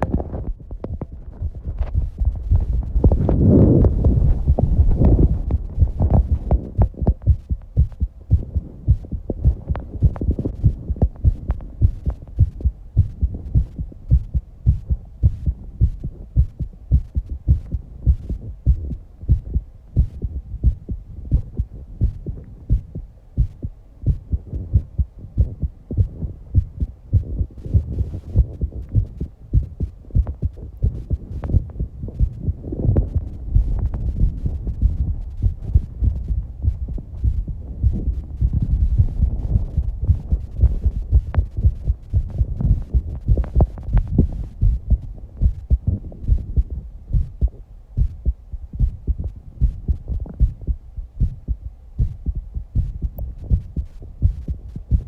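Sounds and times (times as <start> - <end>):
fast heartbeat thumps: 0.0 - 55.0.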